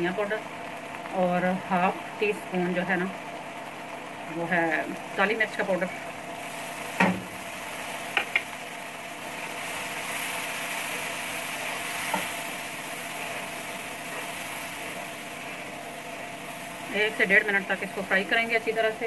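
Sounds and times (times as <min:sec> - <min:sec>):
spices sizzling in a wok: 0:00.0 - 0:19.0.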